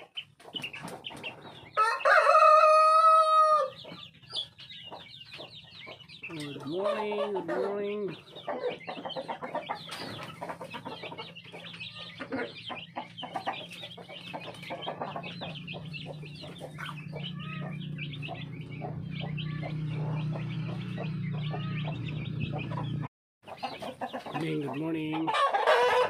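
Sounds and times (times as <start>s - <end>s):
chicks peeping: 0.0s - 26.0s
hens clucking: 0.0s - 26.0s.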